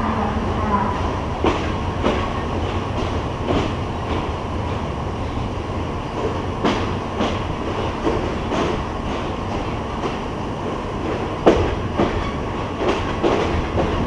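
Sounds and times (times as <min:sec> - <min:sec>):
train rumbling on rails: 0:00.0 - 0:14.0
wheels clacking over rail joints: 0:01.4 - 0:04.8, 0:06.1 - 0:14.0.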